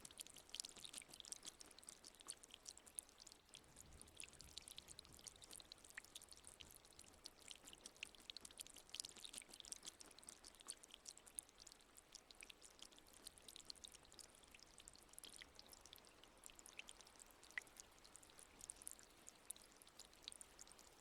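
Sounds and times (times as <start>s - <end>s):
fountain water trickling: 0.0s - 21.0s.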